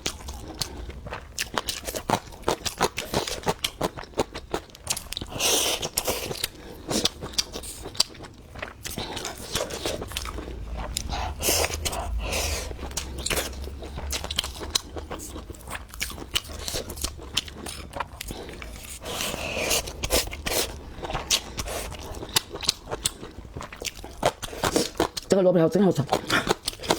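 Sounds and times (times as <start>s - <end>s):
crunchy chewing: 0.0s - 25.3s, 26.1s - 26.9s.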